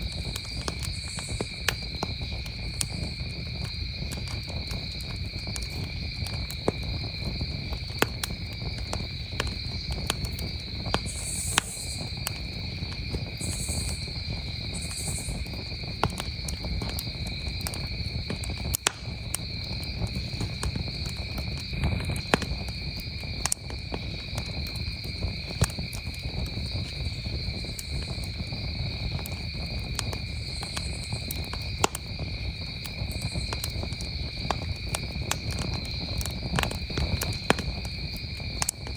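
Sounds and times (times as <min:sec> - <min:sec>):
campfire crackling and popping: 0:00.0 - 0:38.9
crickets chirring: 0:00.0 - 0:38.9.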